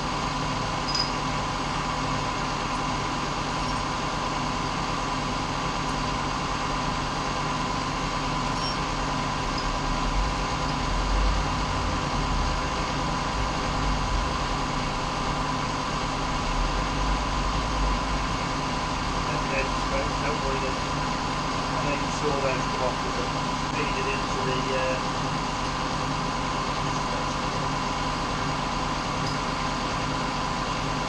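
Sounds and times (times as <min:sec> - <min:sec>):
machine-like hum and hiss: 0:00.0 - 0:31.0.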